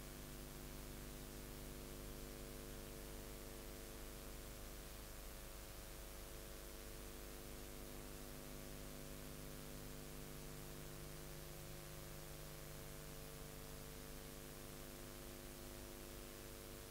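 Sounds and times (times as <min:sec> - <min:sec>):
low electrical hum: 0:00.0 - 0:16.9
tape hiss: 0:00.0 - 0:16.9.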